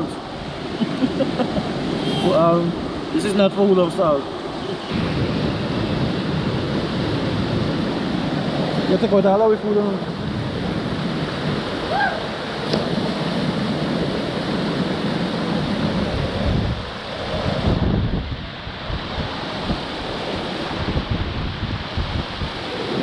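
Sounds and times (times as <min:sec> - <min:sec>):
river water rushing: 0:00.0 - 0:23.0
wind buffeting microphone: 0:00.0 - 0:23.0.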